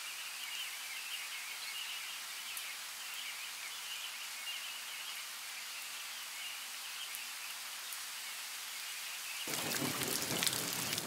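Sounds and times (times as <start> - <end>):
rain hiss: 0.0 - 11.0.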